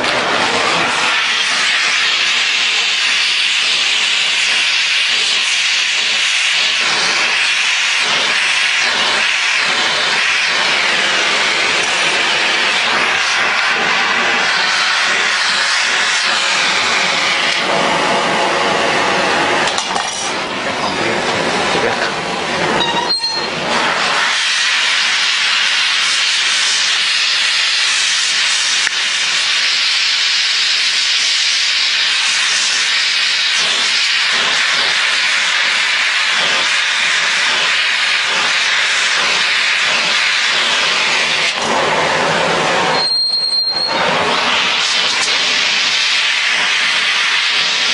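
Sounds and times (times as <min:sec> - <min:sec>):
gas torch flame hissing: 0:00.0 - 0:47.9.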